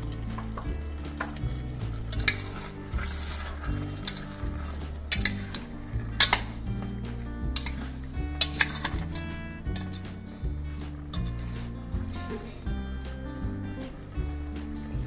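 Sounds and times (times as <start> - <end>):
spoon clinking and scraping pot: 0.0 - 14.8
spoon stirring vegetables in pot: 0.0 - 15.0.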